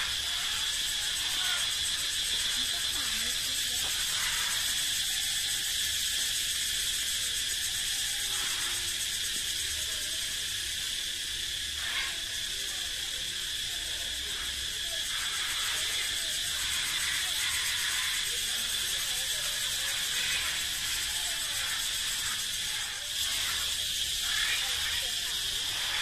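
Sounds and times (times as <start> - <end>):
cicadas buzzing: 0.0 - 26.0.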